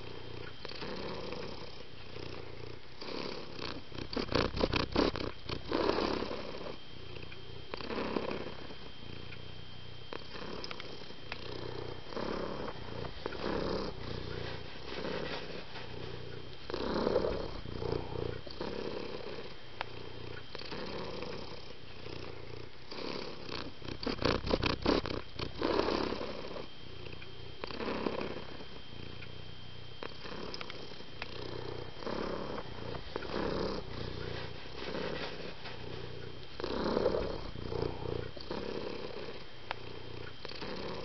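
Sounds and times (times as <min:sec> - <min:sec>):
cat purring: 0:00.0 - 0:41.0.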